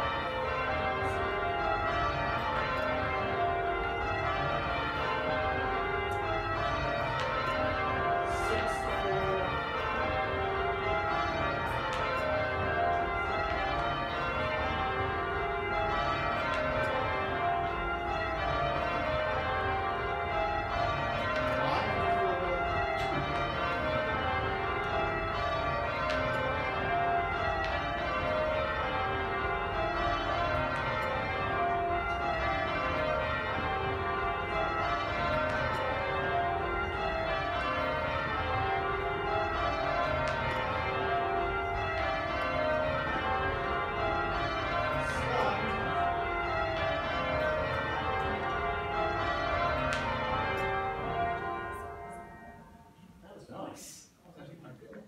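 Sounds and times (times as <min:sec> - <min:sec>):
church bells ringing in rows: 0:00.0 - 0:53.0.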